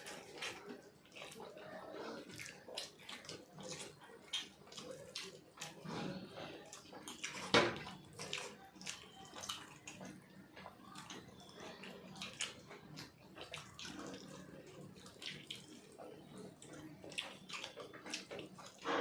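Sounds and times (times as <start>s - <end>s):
wet chewing and mouth noises: 0.0s - 19.0s.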